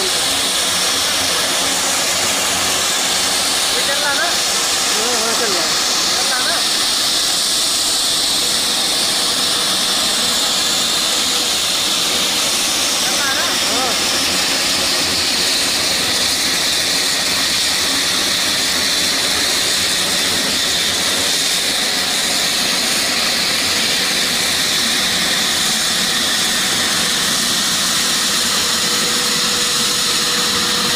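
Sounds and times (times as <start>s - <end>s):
propeller and exhaust hiss: 0.0s - 30.9s
turboprop engines whining: 0.0s - 30.9s.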